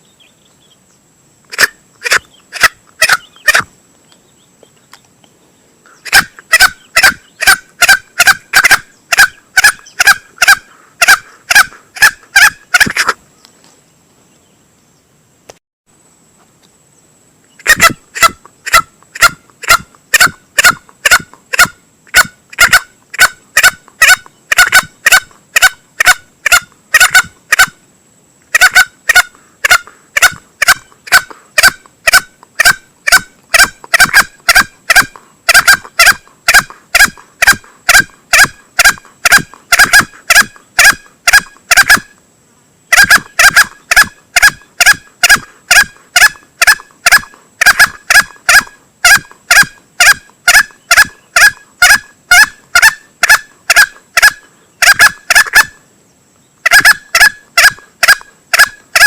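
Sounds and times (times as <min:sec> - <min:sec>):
junglefowl call: 0:01.5 - 0:03.7, 0:05.9 - 0:13.2, 0:17.6 - 0:27.8, 0:28.5 - 0:42.2, 0:42.9 - 0:55.8, 0:56.6 - 0:59.0.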